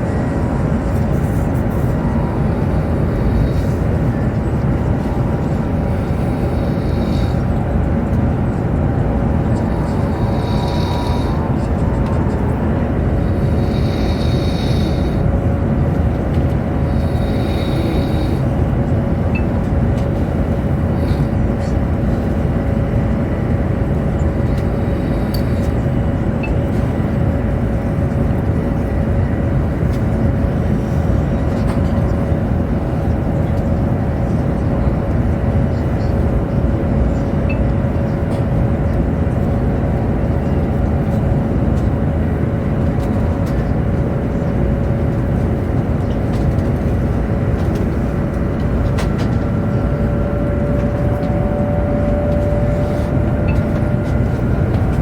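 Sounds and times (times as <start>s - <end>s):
constant hum tone: 0.0s - 55.0s
train cabin rumble: 0.0s - 55.0s.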